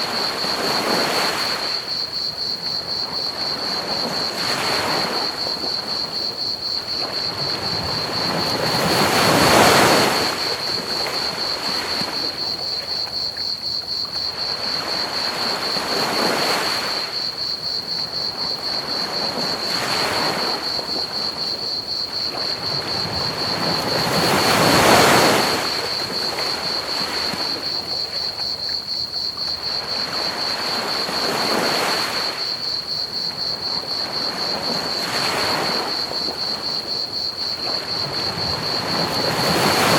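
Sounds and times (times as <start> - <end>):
ocean waves breaking: 0.0 - 12.8, 14.2 - 17.3, 18.0 - 28.5, 29.3 - 39.9
crickets chirping: 0.0 - 39.9.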